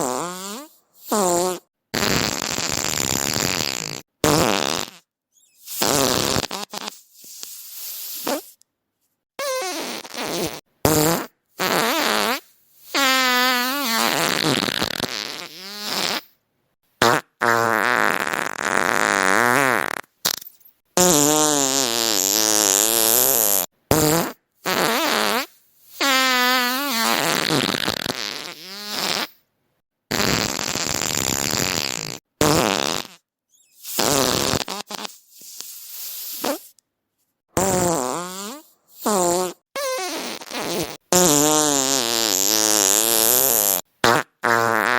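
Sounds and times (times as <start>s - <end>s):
farts: 0.0s - 8.6s, 9.4s - 16.4s, 17.0s - 29.4s, 30.1s - 36.8s, 37.6s - 44.9s.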